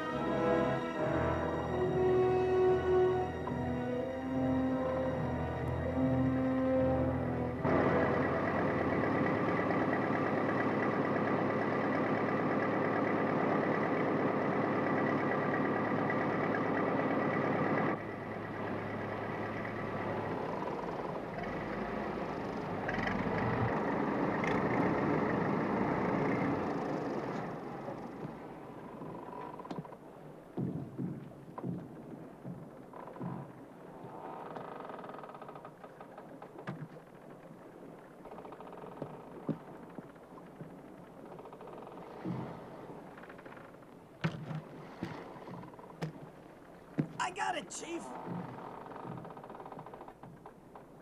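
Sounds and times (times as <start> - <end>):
motorboat engine running: 0.0 - 47.2, 48.1 - 51.0.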